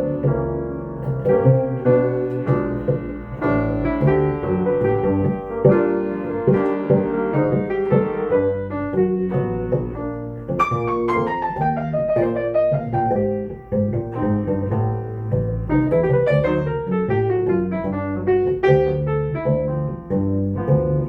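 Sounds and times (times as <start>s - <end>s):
bass: 0.0s - 21.0s
jazz piano: 0.0s - 21.0s.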